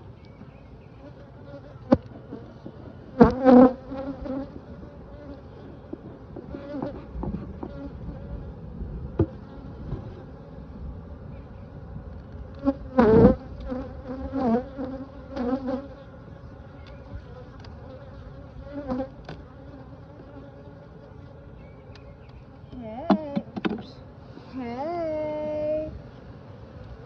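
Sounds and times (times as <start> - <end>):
honeybees buzzing: 0.0 - 27.0.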